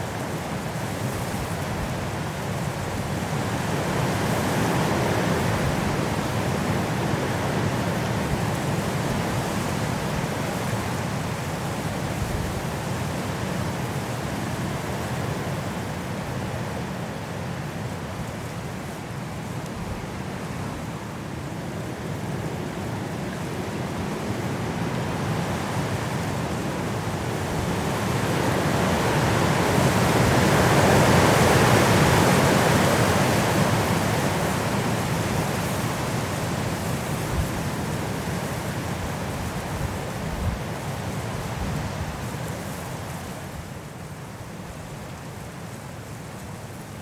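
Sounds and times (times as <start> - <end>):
strong wind blowing through trees: 0.0 - 47.0.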